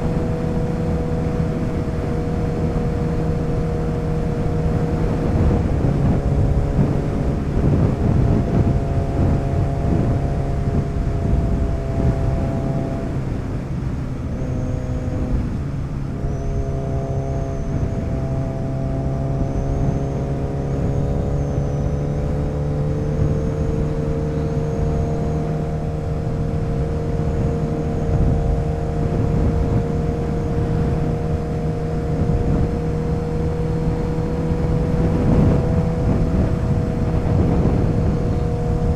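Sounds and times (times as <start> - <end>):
heavy wind rush: 0.0 - 38.9
motorcycle engine running: 0.0 - 38.9.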